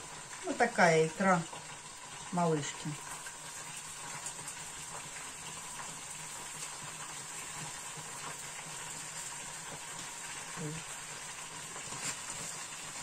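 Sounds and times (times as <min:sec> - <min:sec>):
faint crackles: 0:00.0 - 0:13.0
potatoes sizzling in a pan: 0:00.0 - 0:13.0.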